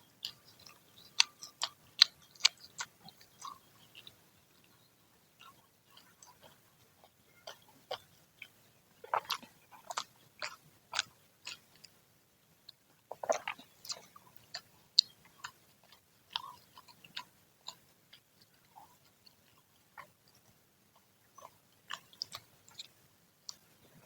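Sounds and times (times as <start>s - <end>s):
crunching and chewing fried food: 0.0s - 24.0s.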